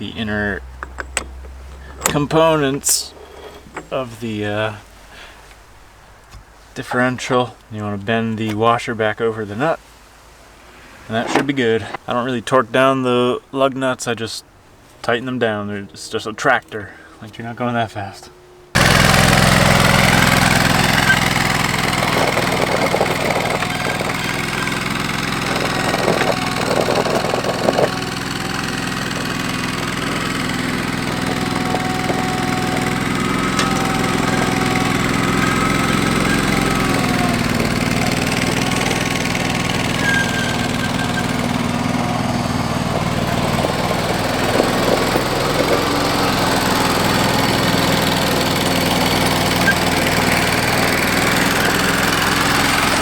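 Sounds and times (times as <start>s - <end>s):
garden tractor engine running: 0.0s - 8.8s, 10.7s - 12.1s, 18.7s - 53.0s.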